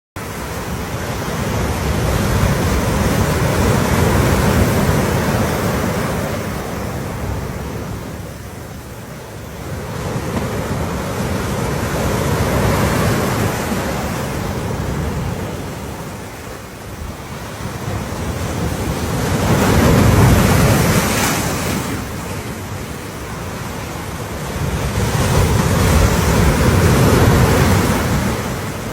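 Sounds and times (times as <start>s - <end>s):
sea waves washing onto beach: 0.2s - 28.9s.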